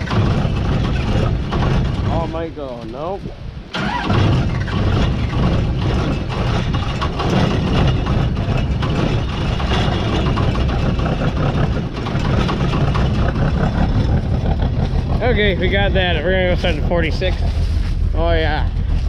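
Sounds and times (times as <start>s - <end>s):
combine engine running: 0.0s - 19.0s.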